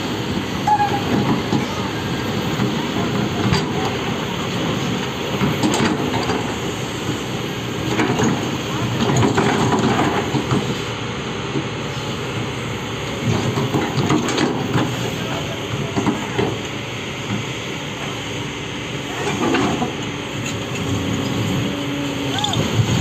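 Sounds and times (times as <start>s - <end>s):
heavy machinery rattling and clanking: 0.0s - 23.0s
low engine rumble: 0.0s - 23.0s.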